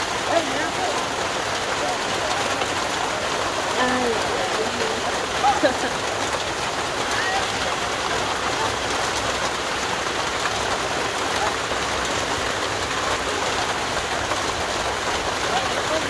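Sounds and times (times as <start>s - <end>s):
heavy rain on grass: 0.0s - 16.0s.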